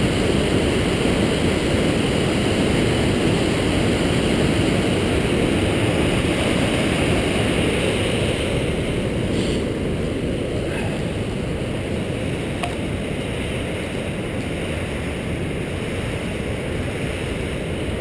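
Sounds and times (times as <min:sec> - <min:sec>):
whitewater roaring: 0:00.0 - 0:18.0.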